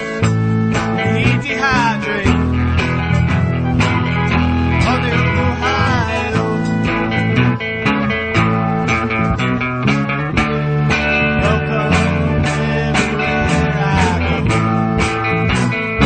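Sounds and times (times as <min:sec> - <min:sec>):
electric guitar chords: 0:00.0 - 0:16.0
rock band playing: 0:00.0 - 0:16.0
steady drum beat: 0:00.0 - 0:16.0.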